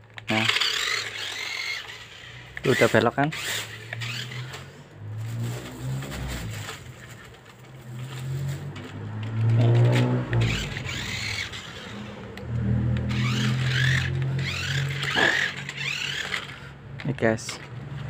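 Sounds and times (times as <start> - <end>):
toy car electric motor whirring: 0.0 - 17.7.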